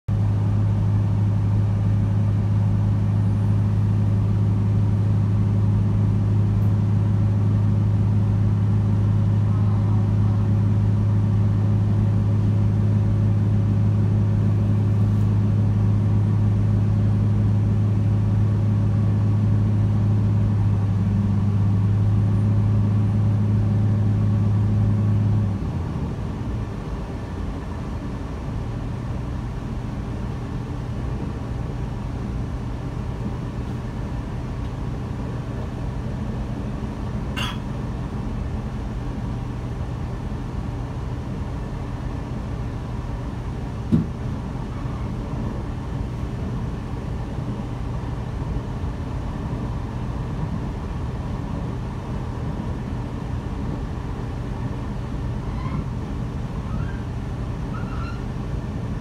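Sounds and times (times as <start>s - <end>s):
electric train cabin hum: 0.1s - 59.0s.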